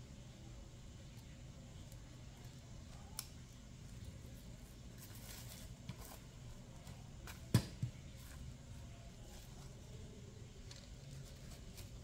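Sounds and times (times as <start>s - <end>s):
soft plastic rustling: 1.1s - 12.0s.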